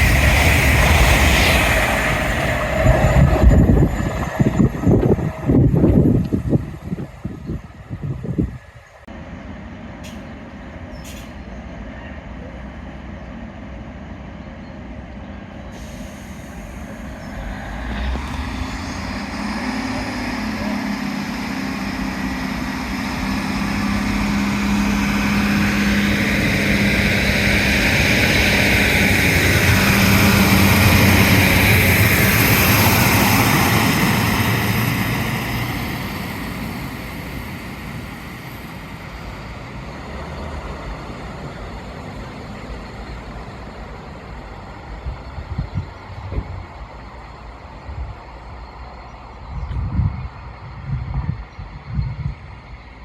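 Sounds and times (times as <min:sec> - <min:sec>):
train passing with rumble and hiss: 0:00.0 - 0:53.0.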